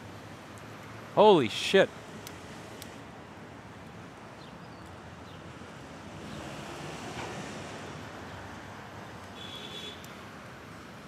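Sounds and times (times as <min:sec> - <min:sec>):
faint traffic: 0:00.0 - 0:11.0.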